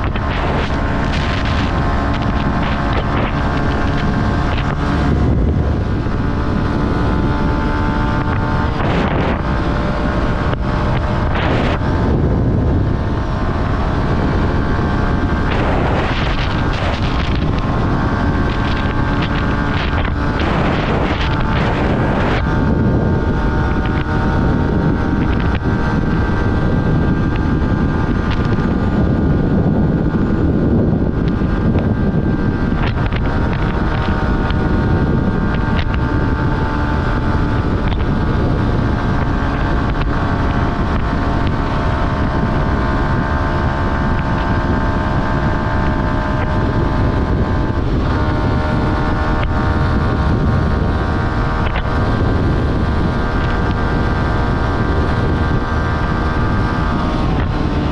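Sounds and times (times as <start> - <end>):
motorcycle engine running: 0.0 - 57.9
wind noise on microphone: 0.0 - 57.9.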